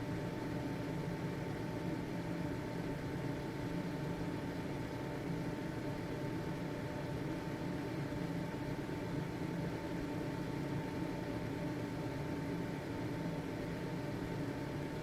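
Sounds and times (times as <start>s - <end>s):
ventilation fan running: 0.0s - 15.0s.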